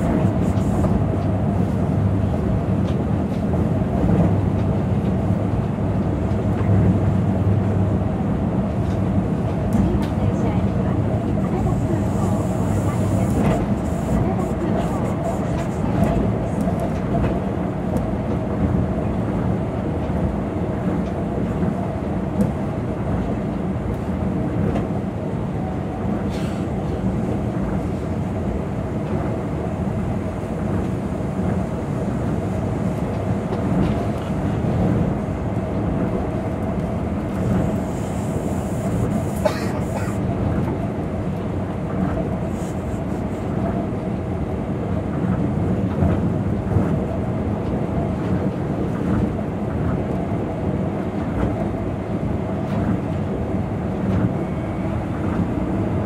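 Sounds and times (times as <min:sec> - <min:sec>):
constant train hum: 0:00.0 - 0:56.0
train tyres rumbling on guideway: 0:00.0 - 0:56.0.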